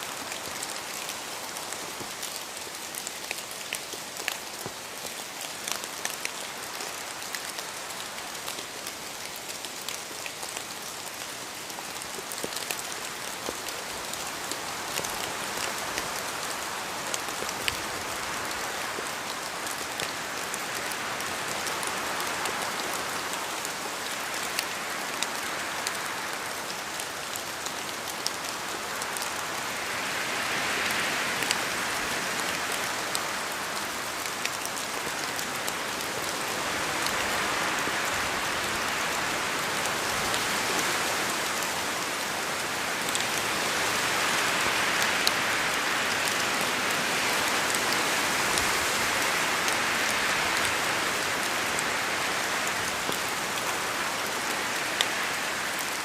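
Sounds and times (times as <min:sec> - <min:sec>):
rain falling: 0:00.0 - 0:56.0
raindrops ticking on a surface: 0:00.0 - 0:56.0.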